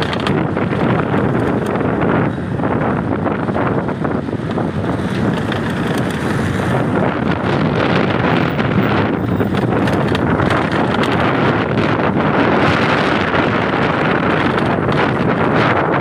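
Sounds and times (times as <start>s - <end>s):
wind buffeting the microphone: 0.0s - 16.0s.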